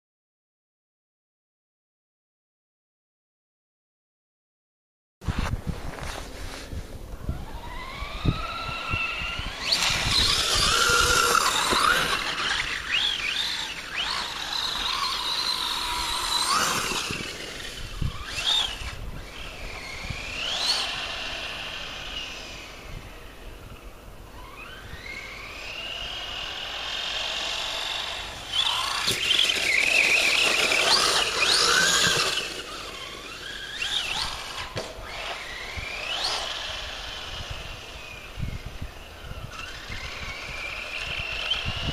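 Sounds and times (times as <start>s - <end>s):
electric motor whining: 7.2s - 41.9s.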